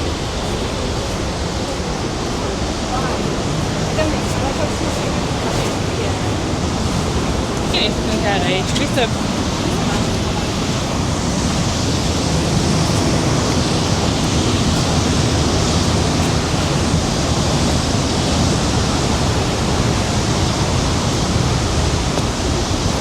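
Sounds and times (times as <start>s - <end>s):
large waterfall rushing: 0.0s - 23.0s.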